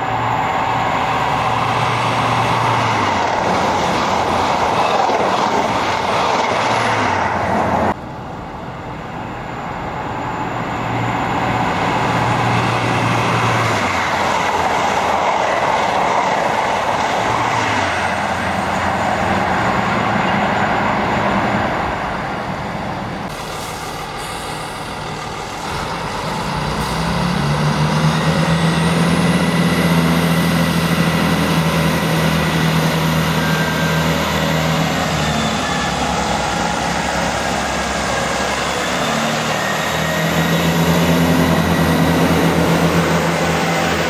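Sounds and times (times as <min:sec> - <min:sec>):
diesel engines droning: 0:00.0 - 0:44.0
train noise: 0:00.0 - 0:44.0.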